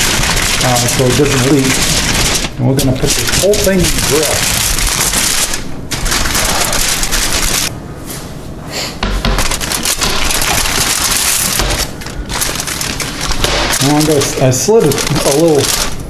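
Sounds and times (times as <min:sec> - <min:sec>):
aluminium foil crinkling: 0:00.0 - 0:07.7, 0:09.4 - 0:16.0.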